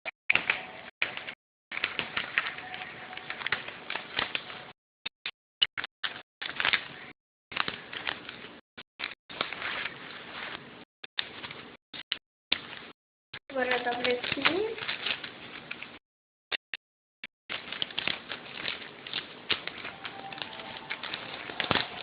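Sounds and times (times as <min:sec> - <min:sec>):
paper being folded and crinkling: 0:00.3 - 0:04.8, 0:06.0 - 0:16.0, 0:17.5 - 0:22.0.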